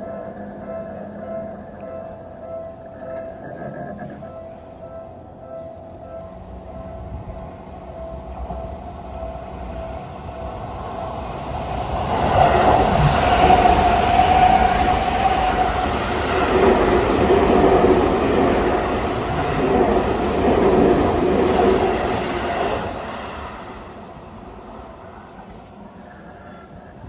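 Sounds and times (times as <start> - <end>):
train wheels running on rails: 4.6 - 27.0.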